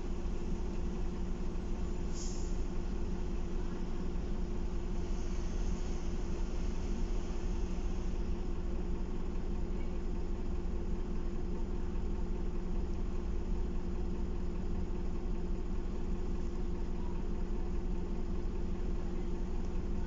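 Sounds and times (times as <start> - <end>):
bus diesel engine idling: 0.0 - 20.0.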